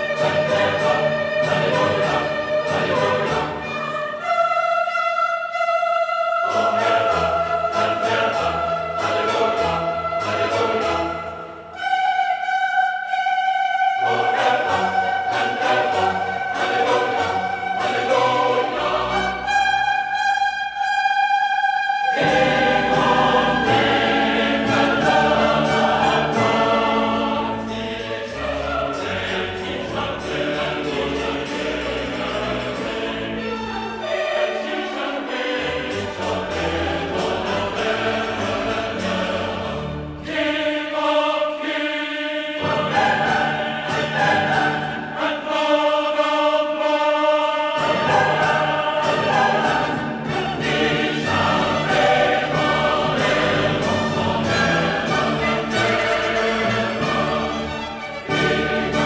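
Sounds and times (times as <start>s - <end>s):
choir singing sustained chords: 0.0s - 59.0s.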